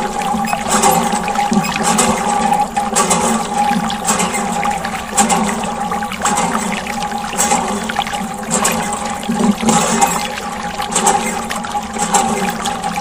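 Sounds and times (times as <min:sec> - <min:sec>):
water pump humming: 0:00.0 - 0:13.0
water trickling and splashing: 0:00.0 - 0:13.0.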